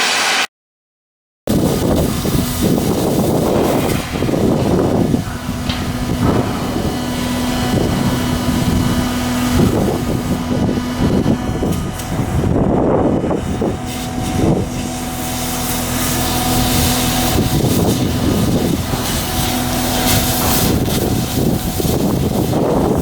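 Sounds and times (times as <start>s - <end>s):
loud mechanical clatter: 1.5s - 23.0s
machinery humming: 1.5s - 23.0s.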